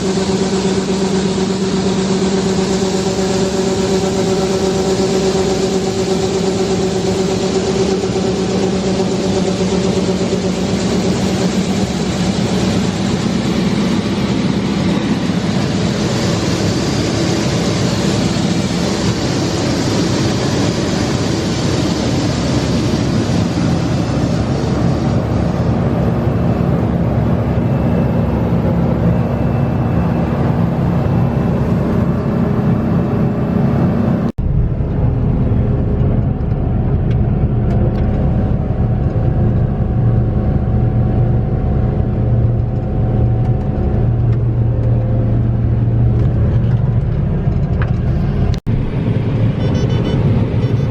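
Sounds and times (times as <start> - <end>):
dull low engine sound: 0.0 - 50.9.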